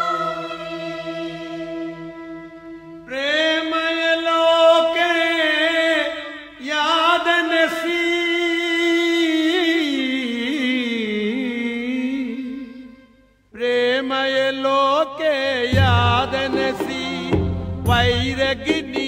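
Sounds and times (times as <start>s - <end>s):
man chanting: 3.1s - 12.9s, 13.6s - 19.0s.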